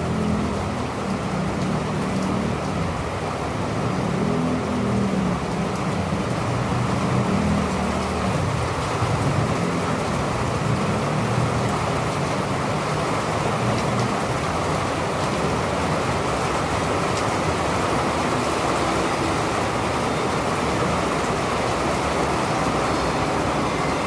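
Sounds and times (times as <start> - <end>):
steady rain pouring: 0.0 - 24.0.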